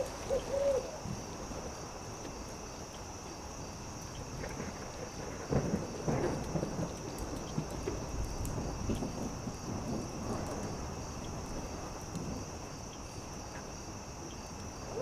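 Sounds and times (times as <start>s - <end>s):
campfire crackling: 0.0s - 15.0s
night insects chirring: 0.0s - 15.0s.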